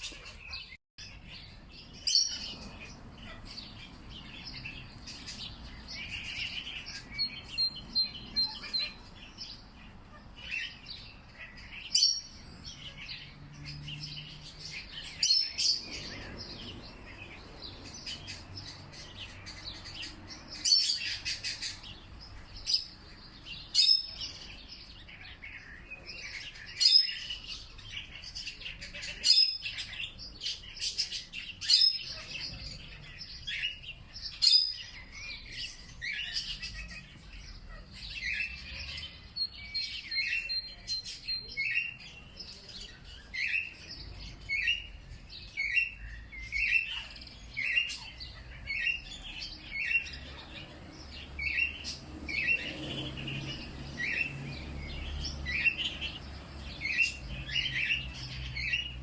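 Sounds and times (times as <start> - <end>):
songbirds chirping and calling: 0.0 - 59.0.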